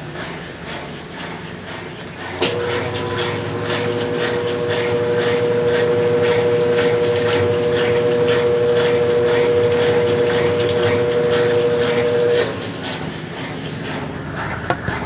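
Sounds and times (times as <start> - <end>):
washing machine motor hum: 0.0 - 15.0
water and clothes swishing: 2.3 - 15.0.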